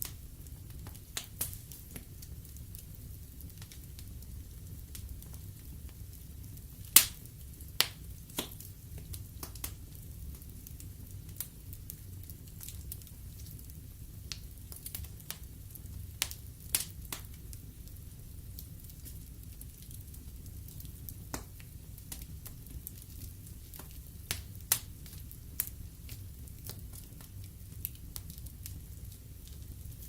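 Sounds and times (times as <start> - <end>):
log fire crackling: 0.0 - 30.0
low steady fire rumble: 0.0 - 30.0.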